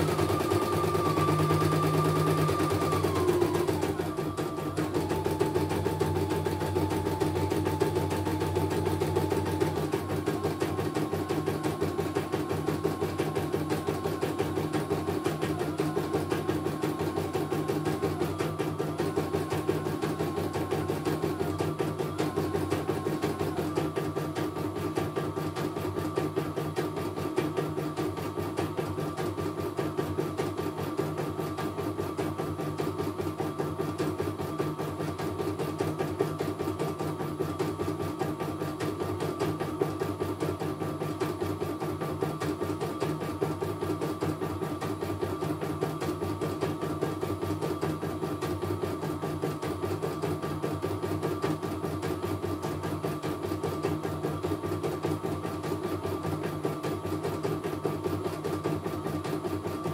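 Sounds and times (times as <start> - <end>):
steady machine whine: 0.0 - 56.8.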